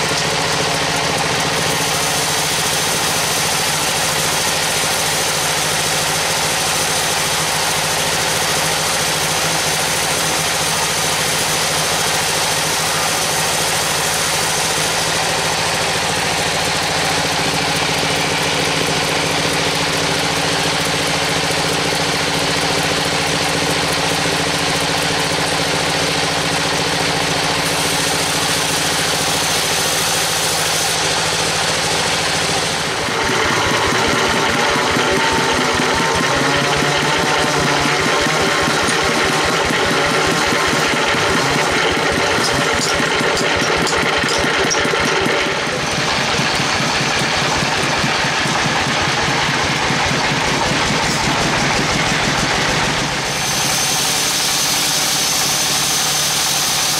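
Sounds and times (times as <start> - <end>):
band saw cutting wood: 0.0 - 56.9.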